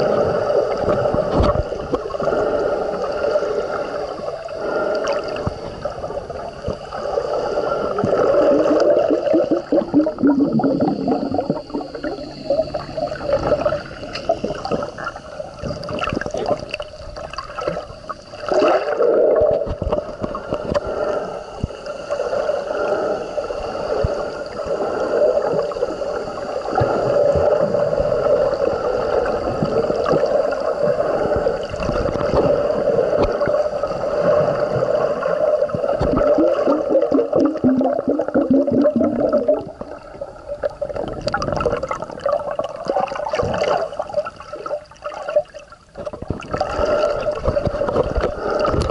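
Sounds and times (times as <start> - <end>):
underwater gurgling and sloshing: 0.0 - 48.9.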